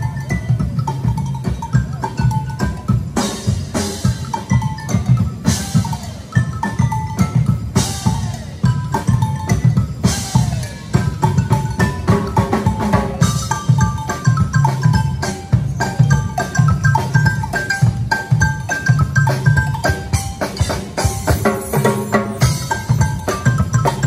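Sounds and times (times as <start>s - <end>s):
marimba-like mallet percussion: 0.0s - 24.0s
steady drum beat: 0.0s - 24.0s.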